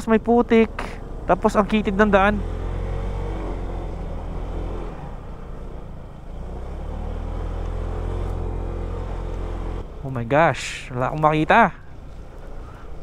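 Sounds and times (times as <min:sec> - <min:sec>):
scooter engine climbing: 0:00.0 - 0:13.0.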